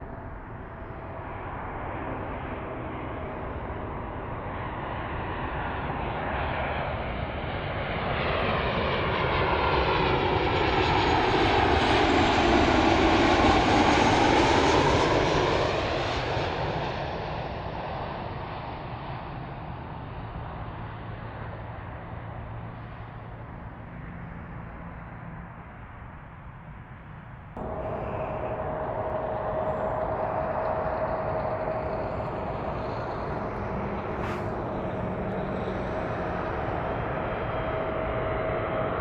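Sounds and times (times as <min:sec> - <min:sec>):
jet airliner passing: 0:00.0 - 0:39.0.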